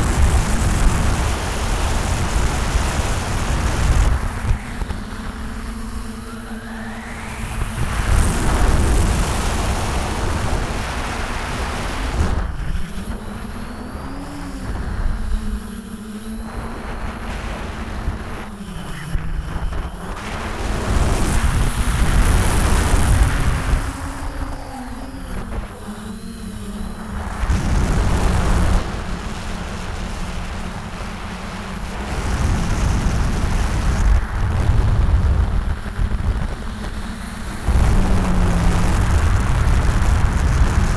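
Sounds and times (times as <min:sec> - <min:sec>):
drone motors and propellers humming: 0:00.0 - 0:40.9
wind rush on microphone: 0:00.0 - 0:40.9.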